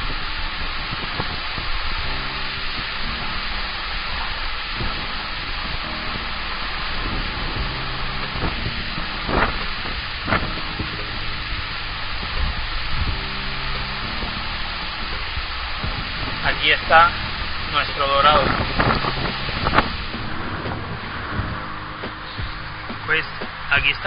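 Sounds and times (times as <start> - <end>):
heavy rain on water and pavement: 0.0 - 24.0.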